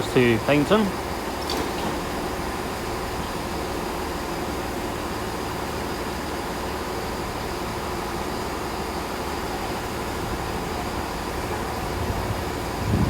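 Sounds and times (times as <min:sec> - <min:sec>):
train diesel engines humming: 0:00.0 - 0:13.0.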